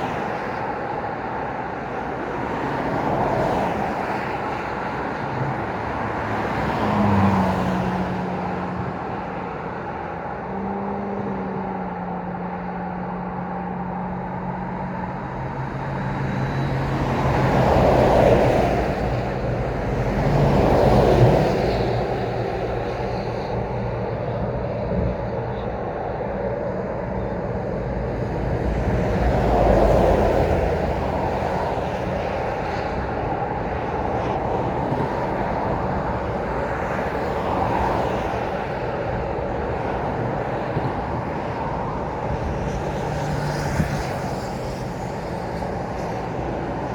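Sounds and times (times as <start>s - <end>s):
low engine hum: 0.0s - 46.9s
vehicles passing: 0.0s - 46.9s.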